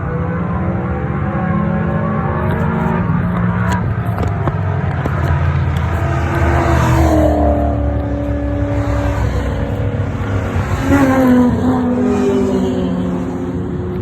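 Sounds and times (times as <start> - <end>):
race car engines rumbling: 0.0 - 14.0
race car passing by: 0.8 - 14.0.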